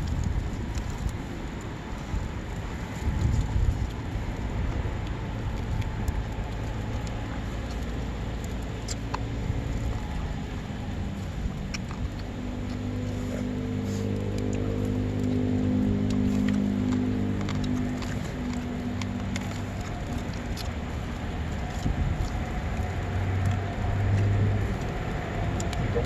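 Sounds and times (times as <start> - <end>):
campfire crackles: 0.0 - 26.0
low engine hum: 0.0 - 26.0
wind buffeting microphone: 0.0 - 26.0.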